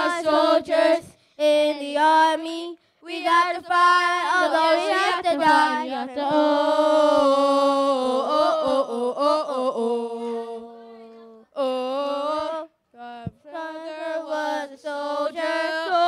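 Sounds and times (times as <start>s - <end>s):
young voices singing gospel: 0.0s - 16.0s.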